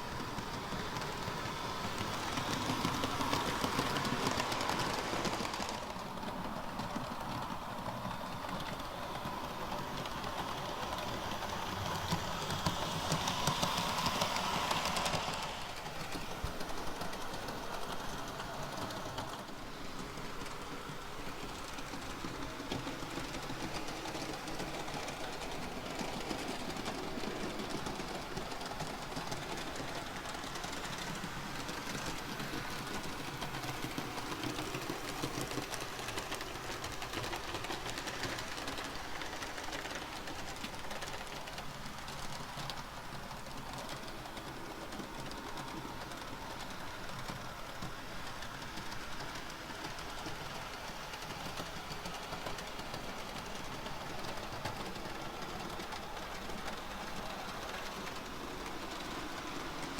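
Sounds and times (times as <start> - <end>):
model train motor hum: 0.0 - 59.9
wheels clicking over rails: 0.0 - 59.9.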